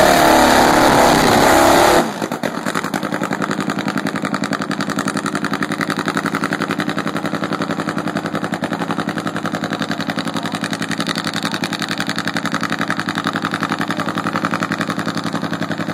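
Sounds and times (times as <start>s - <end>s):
motorcycle engine idling: 2.2s - 15.9s.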